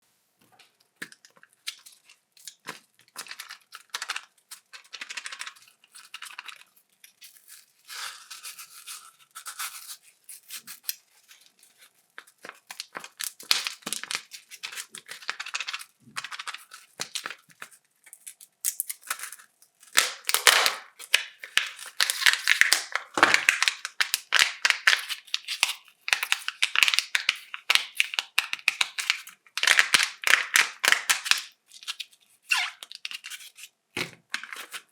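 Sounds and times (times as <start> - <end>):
wrappers crinkling and tearing: 1.4 - 33.7.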